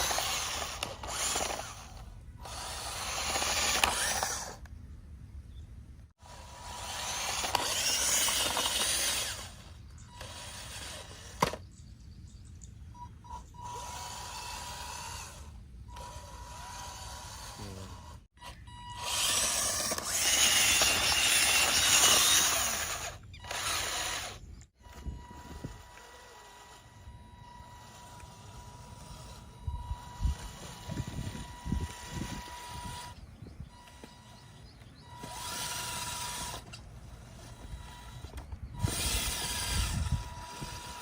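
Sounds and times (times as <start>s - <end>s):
small electric motor running: 0.0s - 4.7s, 6.2s - 11.7s, 13.0s - 41.0s.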